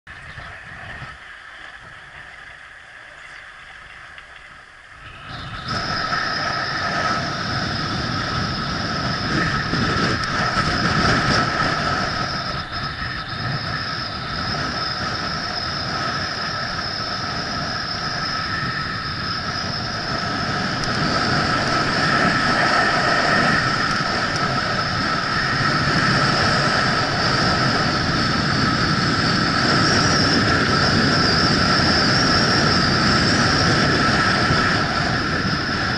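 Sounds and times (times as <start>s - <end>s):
skis scraping over snow: 0.5s - 35.9s
steady high whistle: 4.9s - 35.9s
wind rushing: 4.9s - 35.9s.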